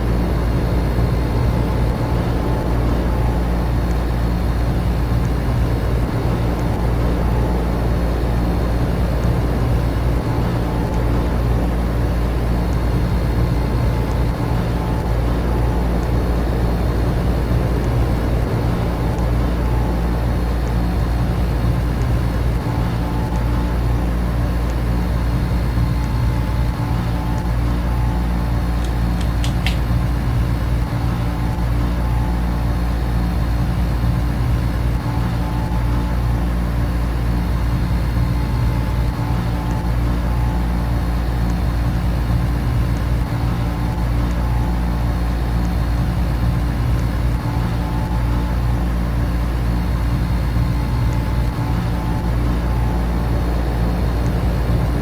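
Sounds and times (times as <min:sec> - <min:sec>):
air conditioner and fans humming: 0:00.0 - 0:55.0.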